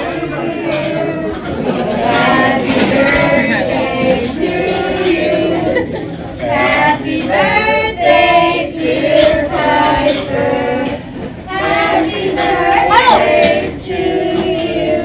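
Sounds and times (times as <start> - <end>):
group of people singing: 0.0 - 15.0.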